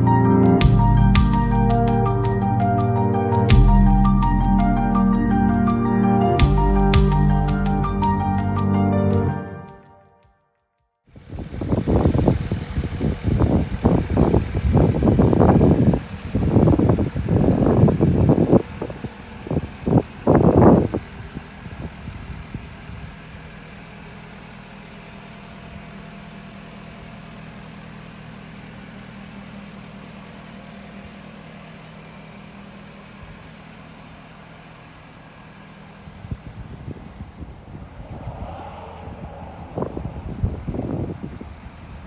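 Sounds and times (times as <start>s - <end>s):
diesel engine idling: 0.0s - 9.4s, 11.2s - 38.1s.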